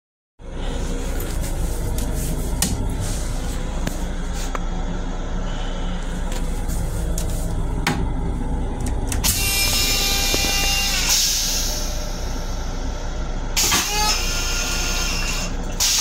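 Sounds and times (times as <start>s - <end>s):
train low rumble: 0.4s - 16.0s.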